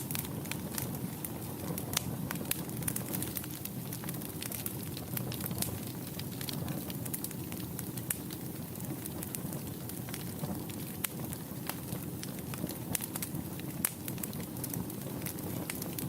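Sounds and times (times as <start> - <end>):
fire flames rushing: 0.0 - 16.0
wood fire crackling and popping: 0.0 - 16.0.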